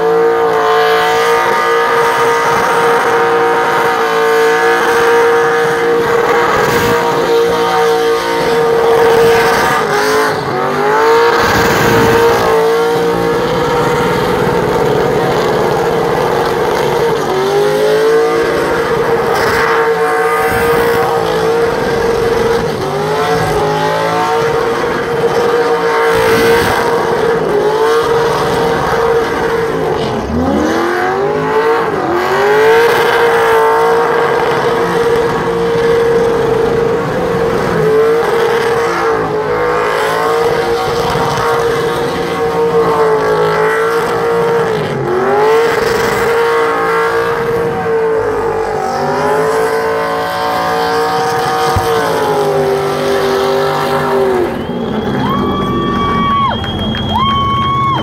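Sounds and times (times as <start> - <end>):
car engine revving high: 0.0 - 58.0.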